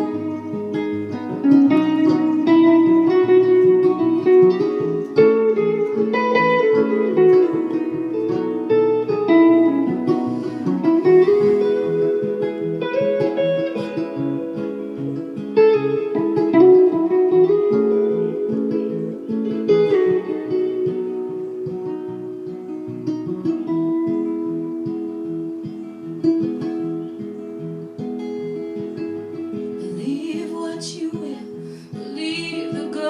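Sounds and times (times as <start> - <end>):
acoustic guitar picking and strumming: 0.0 - 33.0.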